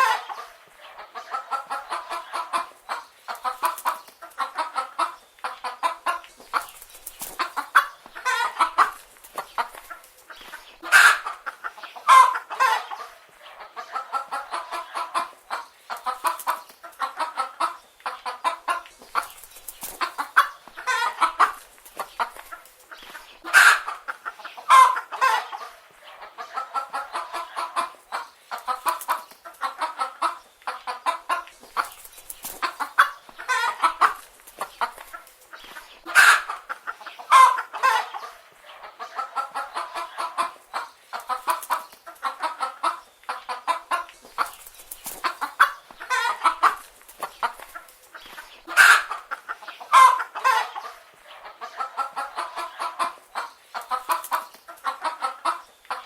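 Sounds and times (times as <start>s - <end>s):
hens clucking: 0.0s - 56.0s.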